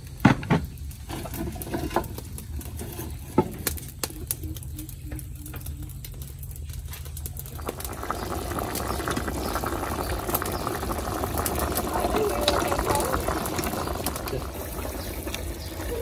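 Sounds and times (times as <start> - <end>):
pot boiling and bubbling: 0.0 - 16.0.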